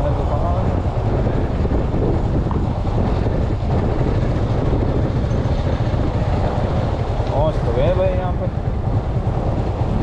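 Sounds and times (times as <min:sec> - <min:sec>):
motorcycle engine rumble: 0:00.0 - 0:10.0
wind rushing over microphone: 0:00.0 - 0:10.0.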